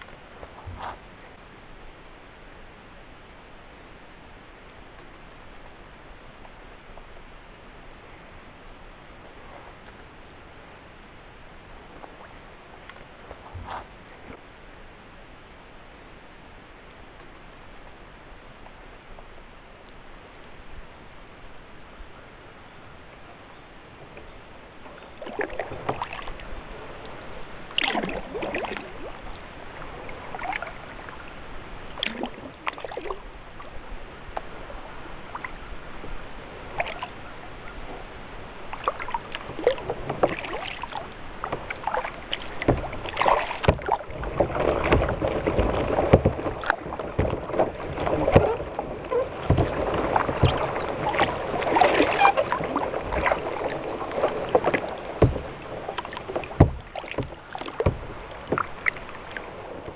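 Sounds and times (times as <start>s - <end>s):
paddle splashing water: 0.0s - 59.9s.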